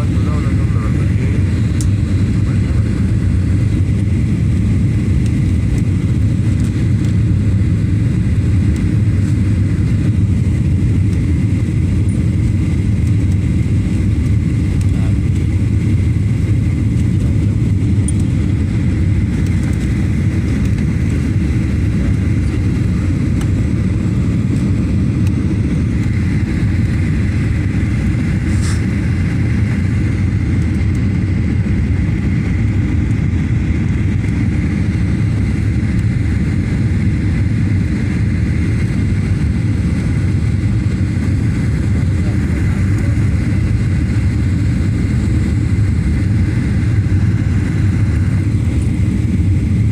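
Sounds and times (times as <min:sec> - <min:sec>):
jet engines roaring: 0:00.0 - 0:49.9
rushing air in cabin: 0:00.0 - 0:49.9.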